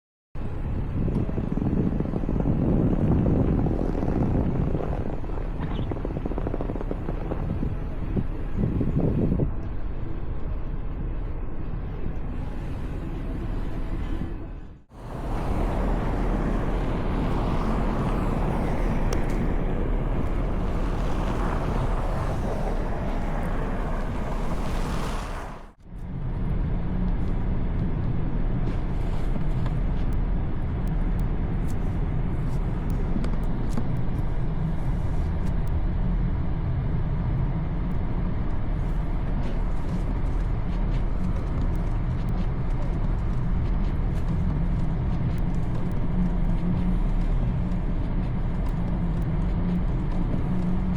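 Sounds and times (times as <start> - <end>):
low rumble: 0.4 - 50.9
street and vehicle noise: 0.4 - 50.9.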